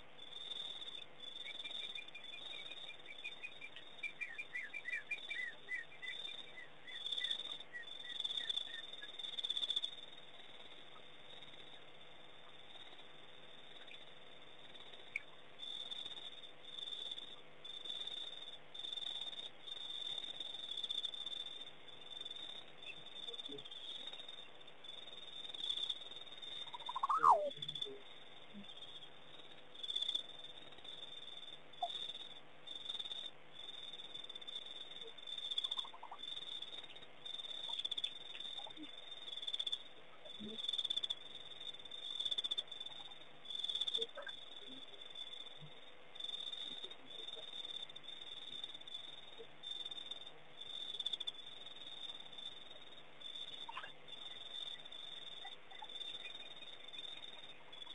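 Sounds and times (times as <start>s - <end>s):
insects and frogs chirping: 0.0s - 57.9s.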